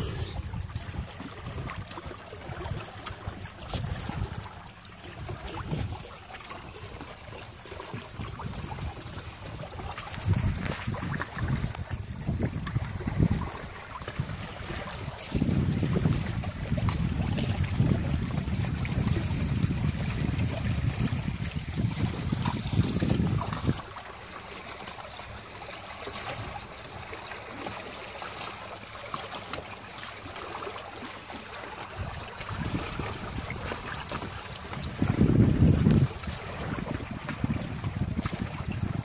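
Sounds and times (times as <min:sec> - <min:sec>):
wind buffeting microphone: 0:00.0 - 0:24.2, 0:31.6 - 0:39.0
water rippling along hulls: 0:00.0 - 0:39.0.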